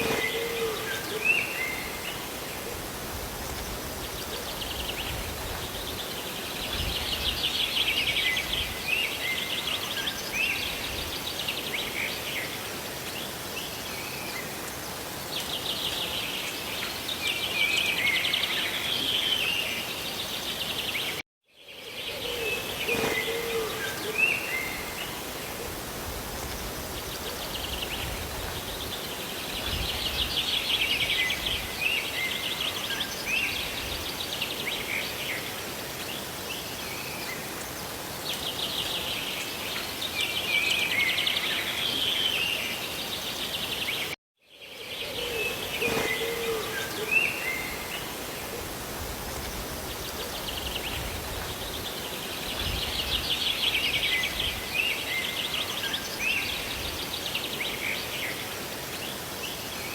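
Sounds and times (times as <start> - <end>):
songbirds trilling: 0.0 - 21.2, 21.8 - 59.9
steady rain: 0.0 - 21.2, 23.8 - 43.7, 46.6 - 59.9.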